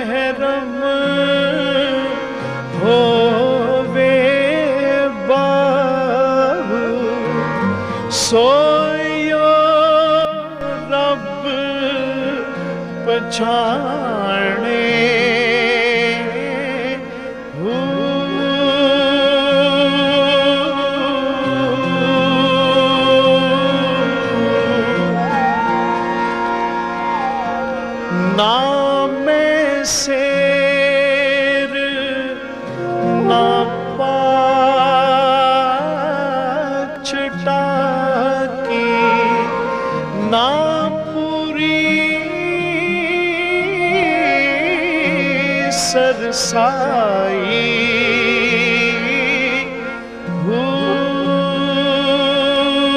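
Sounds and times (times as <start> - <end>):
man singing ornamented song: 0.0 - 25.8, 27.2 - 52.9
harmonium chords: 0.0 - 52.9.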